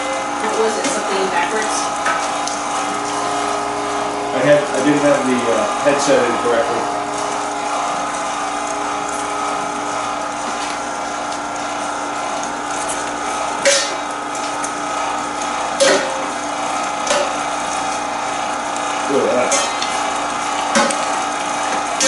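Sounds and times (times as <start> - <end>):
electric meat grinder whining: 0.0 - 22.0.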